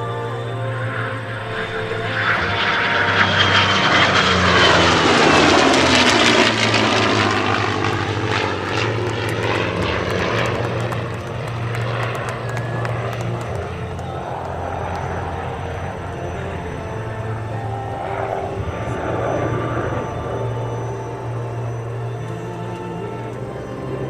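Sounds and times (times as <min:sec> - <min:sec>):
jet engines flying past: 0:00.0 - 0:24.0
propeller engine flying past: 0:00.0 - 0:24.0.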